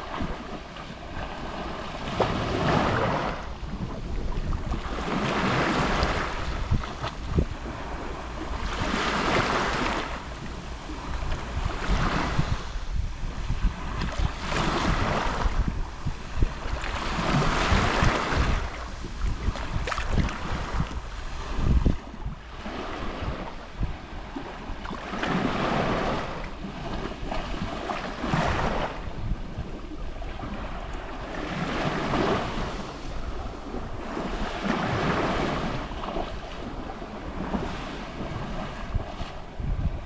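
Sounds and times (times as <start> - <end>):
small waves lapping on shore: 0.0 - 40.0.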